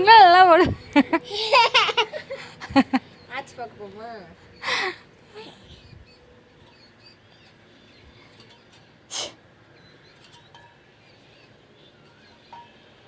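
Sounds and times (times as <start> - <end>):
bird chirping: 0.2 - 13.0.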